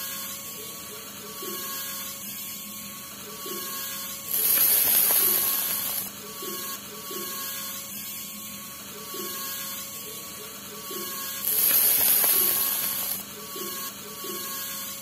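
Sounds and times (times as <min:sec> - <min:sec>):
small electric motor humming: 0:00.0 - 0:15.0.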